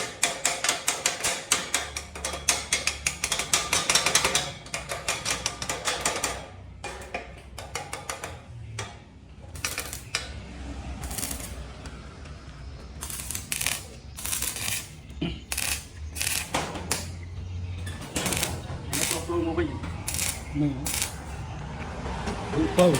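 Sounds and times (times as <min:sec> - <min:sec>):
metal clicking and clanking: 0:00.0 - 0:22.9.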